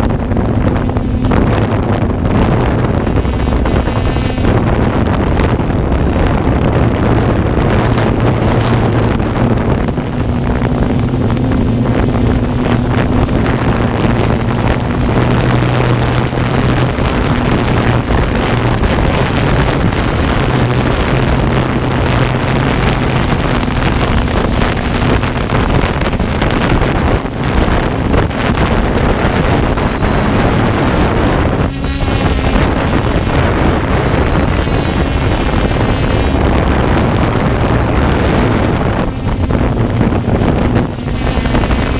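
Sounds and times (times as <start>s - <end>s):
drone propellers humming: 0.0s - 41.9s
wind rushing over microphone: 0.0s - 41.9s.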